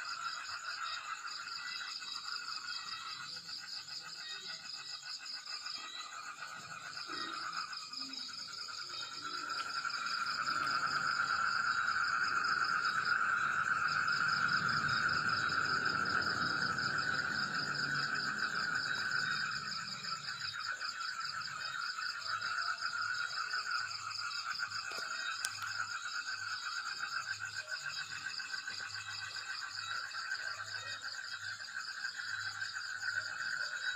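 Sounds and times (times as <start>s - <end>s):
frogs pulsing trill: 0.0s - 33.9s
insects chirring: 0.0s - 33.9s.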